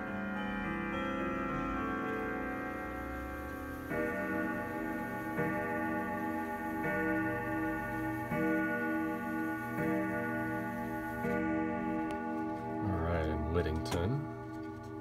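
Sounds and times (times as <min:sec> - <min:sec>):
clock striking deep ringing tone: 0:00.0 - 0:15.0.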